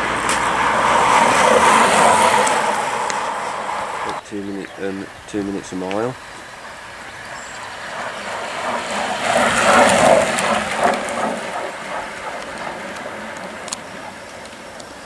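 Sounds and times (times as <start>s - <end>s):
bicycle wheels whirring past: 0.0s - 4.2s, 6.5s - 15.0s.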